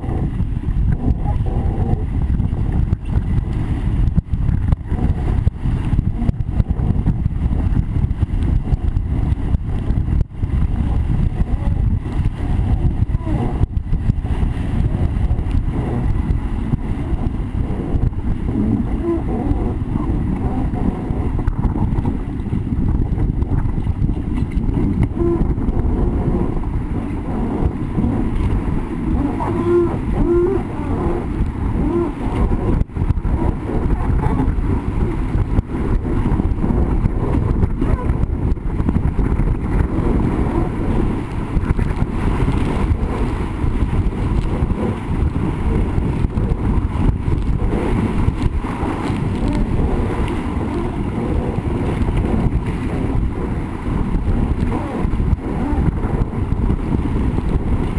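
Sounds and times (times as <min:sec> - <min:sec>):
water rushing along hull: 0:00.0 - 0:57.9
wind buffeting microphone: 0:00.0 - 0:57.9.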